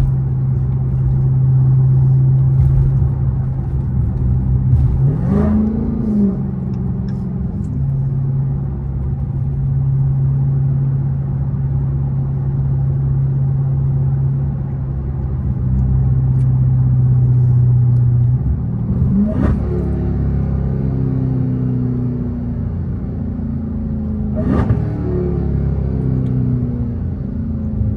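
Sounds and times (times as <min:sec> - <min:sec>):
loud car engine exhaust: 0:00.0 - 0:27.9.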